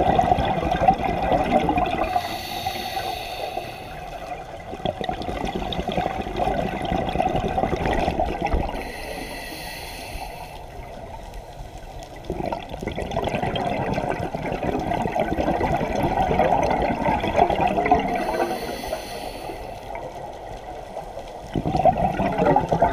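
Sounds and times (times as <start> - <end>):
underwater exhaust bubbles gurgling: 0.0 - 22.9.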